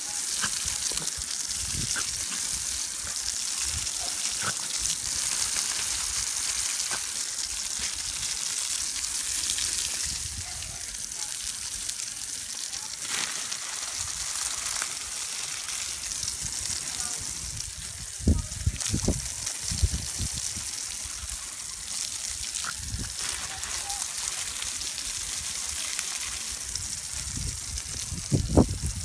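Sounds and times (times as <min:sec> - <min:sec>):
hose spraying water on grass: 0:00.0 - 0:29.0.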